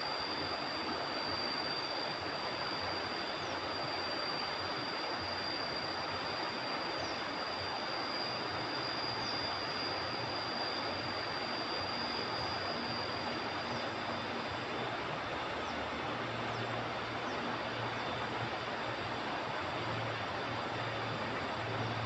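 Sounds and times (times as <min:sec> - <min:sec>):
thin high tone: 0:00.0 - 0:22.0.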